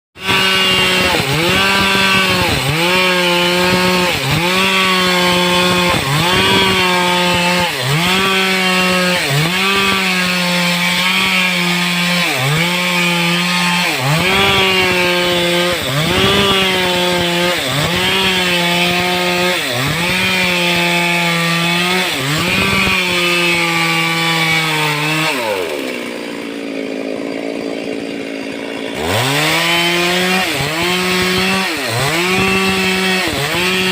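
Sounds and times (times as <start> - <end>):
chainsaw cutting wood: 0.2 - 33.9.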